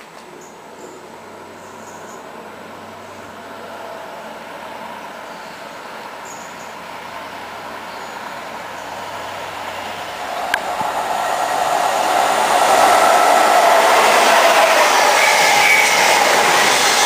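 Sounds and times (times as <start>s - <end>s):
electric train passing at speed: 0.0s - 17.0s.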